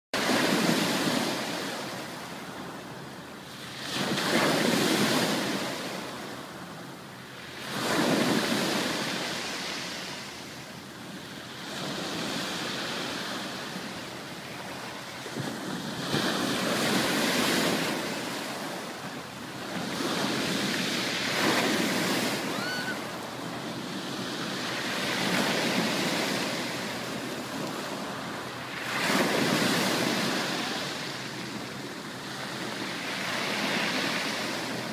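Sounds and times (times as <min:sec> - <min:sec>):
ocean waves breaking on beach: 0:00.2 - 0:34.9.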